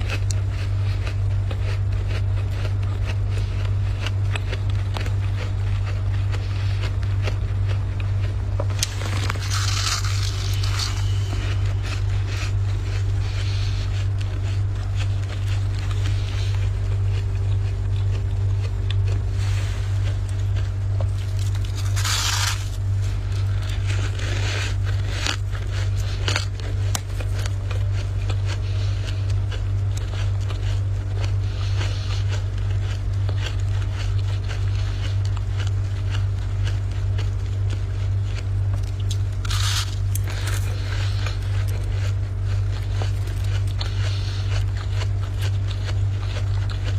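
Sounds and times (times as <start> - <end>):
frost being scraped: 0.0 - 36.4, 39.1 - 46.9
low hum: 0.0 - 46.9.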